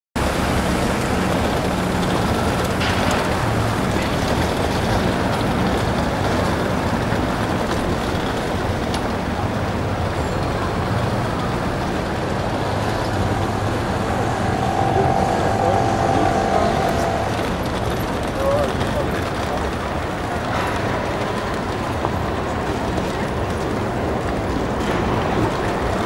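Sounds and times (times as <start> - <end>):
traffic noise: 0.2 - 26.0
vehicle engines running: 0.2 - 26.0.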